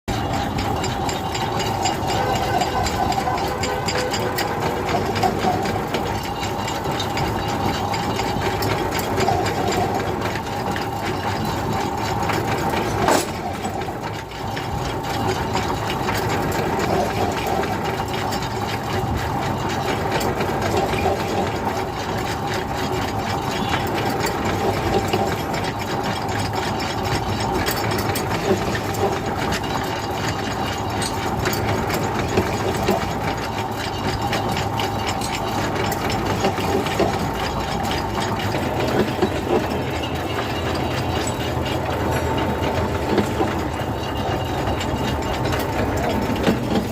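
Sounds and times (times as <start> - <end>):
construction machinery engine: 0.1 - 46.9
rattling and clatter: 0.1 - 46.9.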